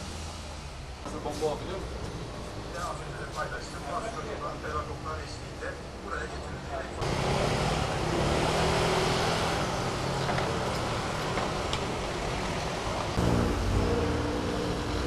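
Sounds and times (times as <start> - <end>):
city traffic passing: 0.0 - 15.0.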